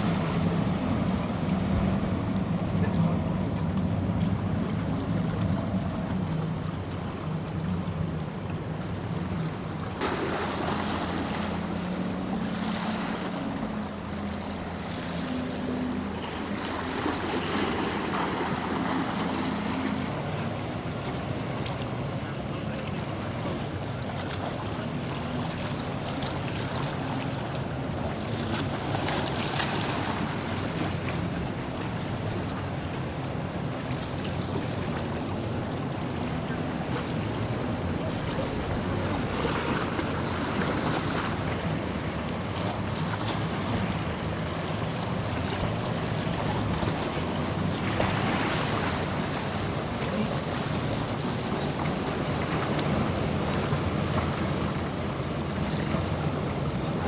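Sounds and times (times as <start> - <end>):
boat engines droning: 0.0 - 57.0
surf washing against jetty: 0.0 - 57.0.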